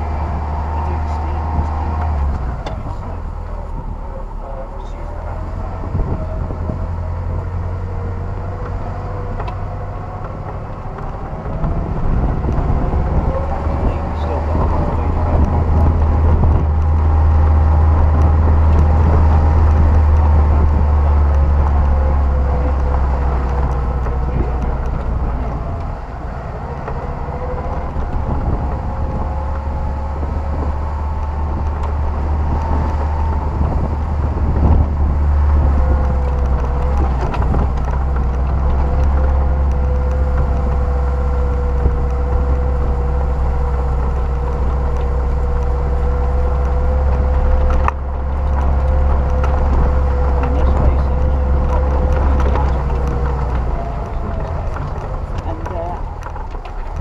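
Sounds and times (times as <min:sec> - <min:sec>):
off-road vehicle engine rumble: 0:00.0 - 0:57.0.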